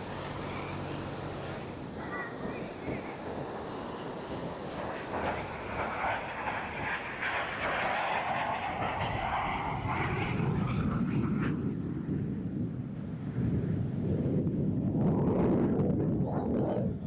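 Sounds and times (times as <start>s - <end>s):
airplane engine rushing: 0.0s - 17.0s
deep engine rumble: 0.0s - 17.0s.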